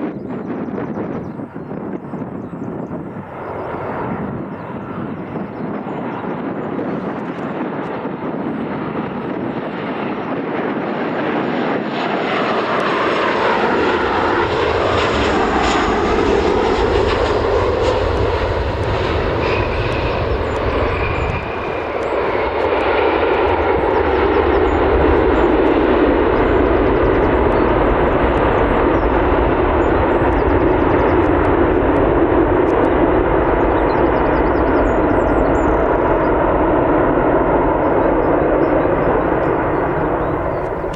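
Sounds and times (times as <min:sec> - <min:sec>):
airliner engines: 0:00.0 - 0:40.9.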